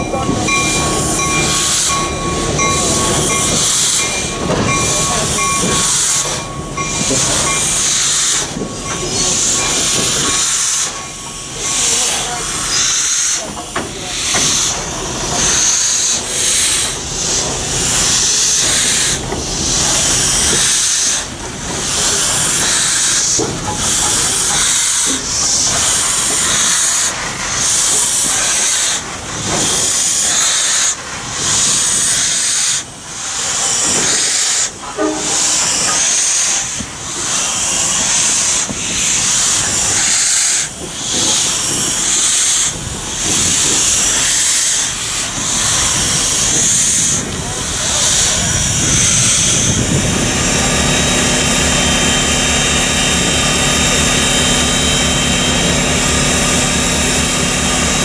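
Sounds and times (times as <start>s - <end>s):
steam locomotive venting steam: 0.0s - 58.0s.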